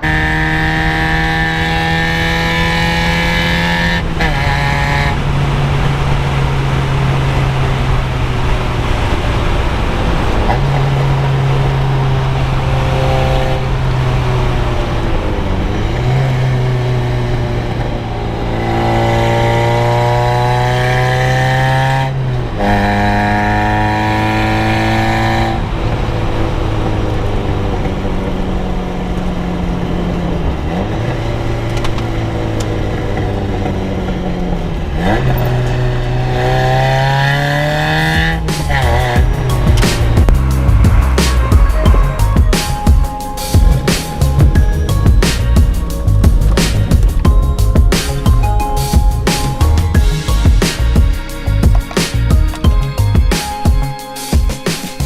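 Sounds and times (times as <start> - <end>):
car engine running under load: 0.0 - 53.2.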